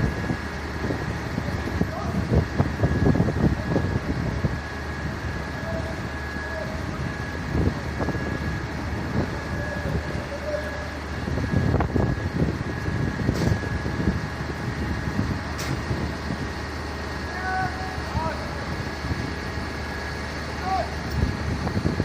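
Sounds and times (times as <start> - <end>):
wind buffeting microphone: 0.0 - 20.1, 20.9 - 22.0
large vehicle engine running: 0.0 - 22.0
steady high whine: 0.0 - 22.0.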